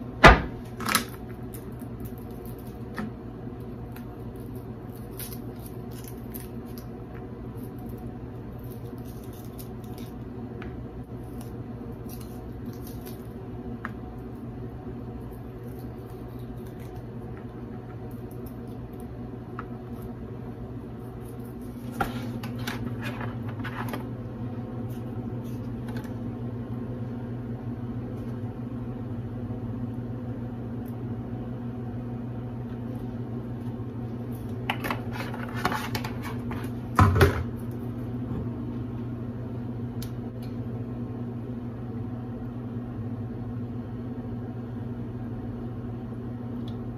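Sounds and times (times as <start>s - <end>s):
electrical appliance hum: 0.0s - 46.9s.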